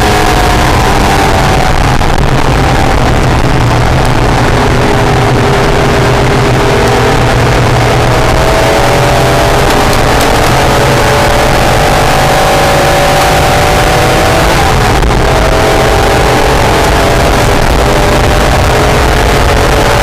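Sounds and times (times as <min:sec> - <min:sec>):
car engine accelerating: 0:00.0 - 0:20.0
loud rushing noise: 0:00.0 - 0:20.0.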